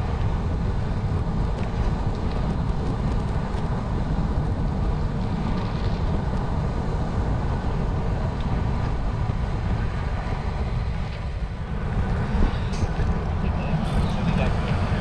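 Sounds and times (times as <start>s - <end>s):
bike tyres rolling on tarmac: 0.0s - 15.0s
wind buffeting microphone: 0.0s - 15.0s.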